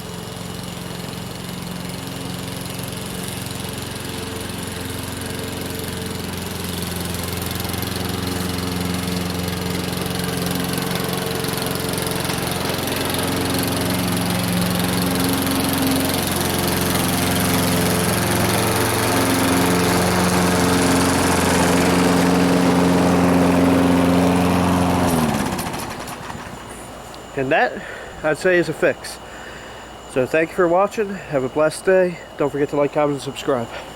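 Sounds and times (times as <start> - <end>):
lawnmower engine cutting grass: 0.0 - 33.9.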